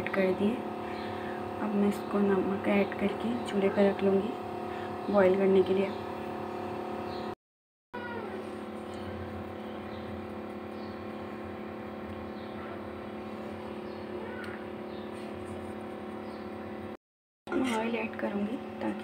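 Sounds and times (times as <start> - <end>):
steady motor hum: 0.0 - 7.4, 8.0 - 19.0.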